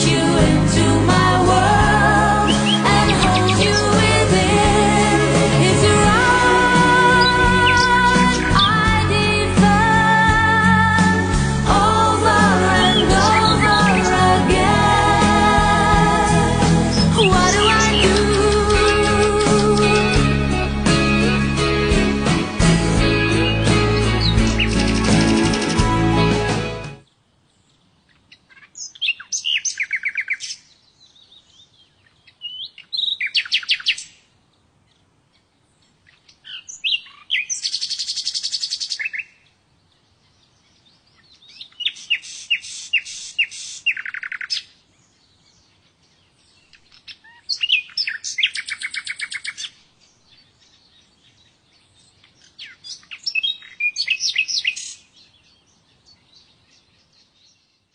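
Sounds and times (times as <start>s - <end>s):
small birds chirping: 2.4s - 4.7s, 6.0s - 9.5s, 11.2s - 20.3s, 23.3s - 26.0s, 27.1s - 57.9s.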